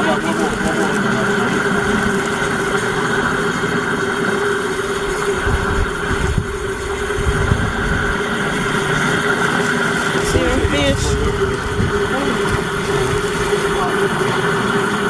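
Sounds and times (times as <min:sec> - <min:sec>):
low rough rumble: 0:00.0 - 0:15.0
motor humming: 0:00.0 - 0:15.0.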